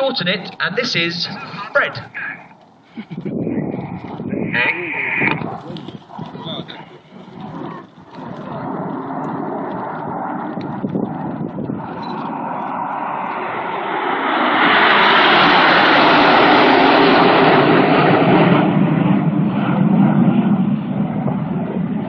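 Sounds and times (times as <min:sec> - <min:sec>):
jets flying past: 0:00.0 - 0:22.0.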